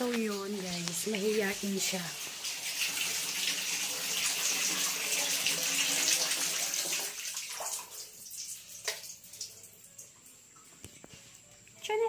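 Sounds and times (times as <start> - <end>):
water running: 0.0 - 12.0.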